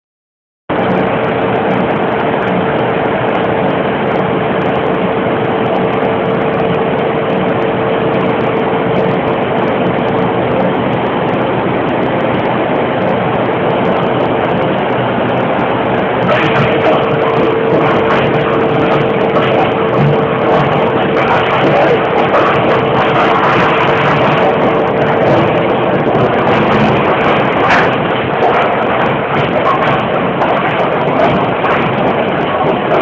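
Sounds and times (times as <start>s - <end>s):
crusher motors humming: 0.7s - 33.0s.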